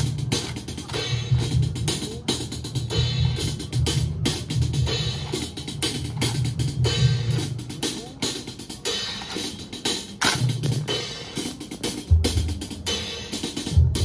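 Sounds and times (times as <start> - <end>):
drum corps marching beat: 0.0 - 14.0.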